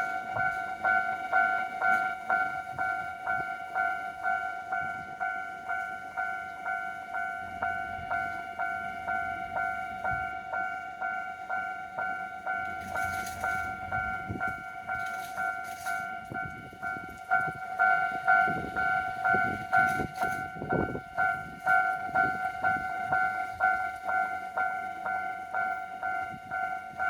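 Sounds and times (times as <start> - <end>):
railroad crossing two-tone bell: 0.0 - 27.0.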